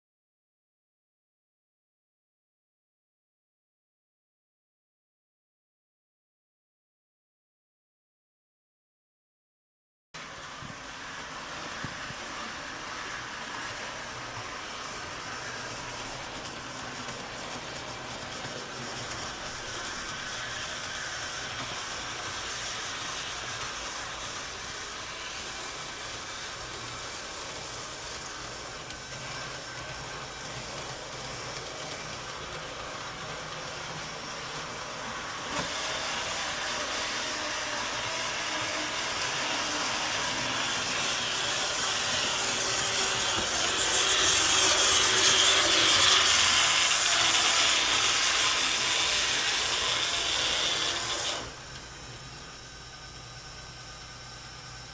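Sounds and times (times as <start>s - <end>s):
train running with hiss: 10.2s - 54.9s.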